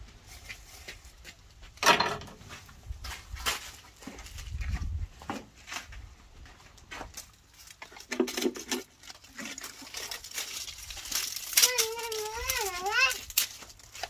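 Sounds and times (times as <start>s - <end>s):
sticks and charcoal being handled: 0.0s - 14.0s.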